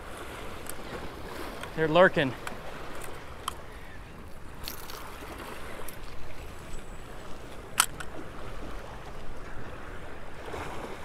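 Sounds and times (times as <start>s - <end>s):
small waves lapping on rocks: 0.0s - 11.0s.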